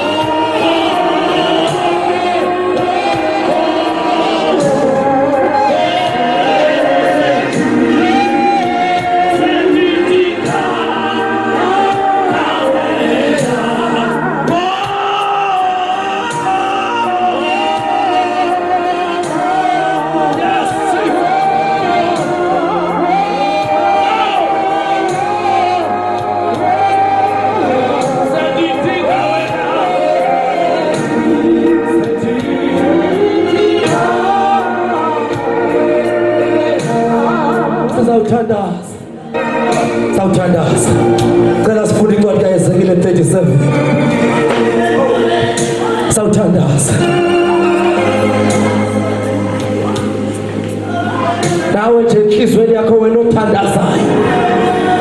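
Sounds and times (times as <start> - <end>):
congregation singing: 0.0 - 55.0.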